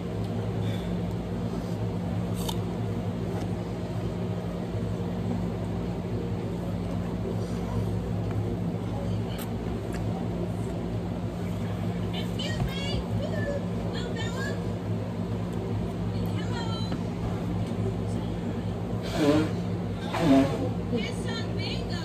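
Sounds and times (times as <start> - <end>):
low mechanical machine hum: 0.0 - 22.0.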